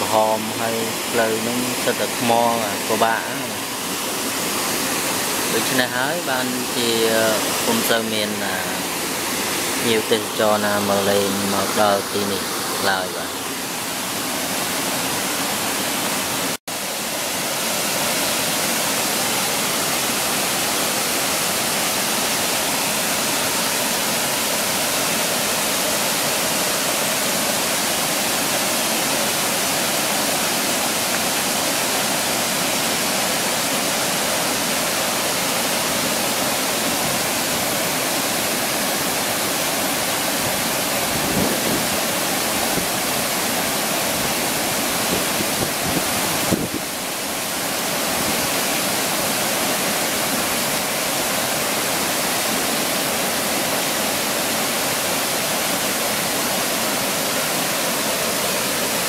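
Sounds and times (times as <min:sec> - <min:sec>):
river water rushing over rapids: 0:00.0 - 0:59.0.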